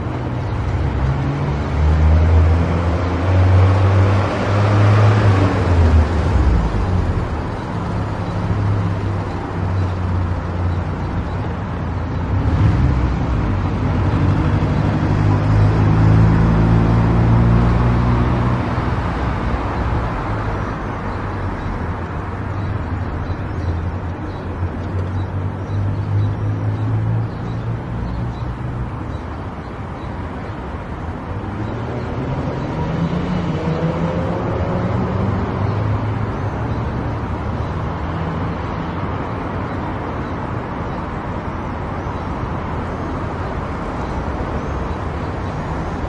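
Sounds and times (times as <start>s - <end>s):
tyre and road noise: 0.0s - 46.0s.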